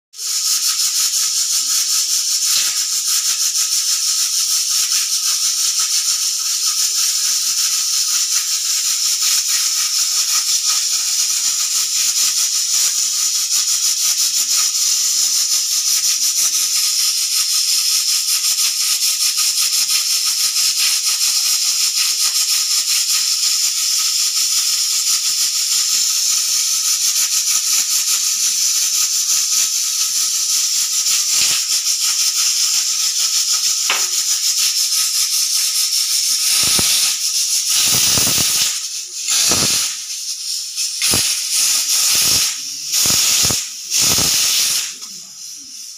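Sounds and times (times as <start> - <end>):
steam whistling and hissing: 0.2 - 45.9.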